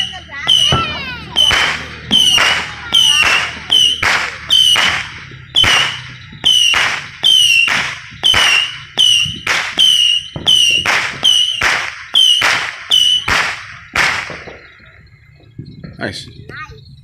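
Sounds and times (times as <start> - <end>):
firework crackling hiss: 0.0 - 14.8
firework whistles: 0.0 - 15.7.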